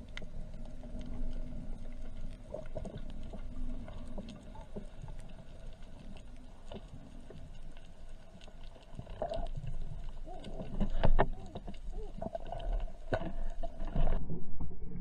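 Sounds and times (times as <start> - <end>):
underwater rumble: 0.0 - 15.0.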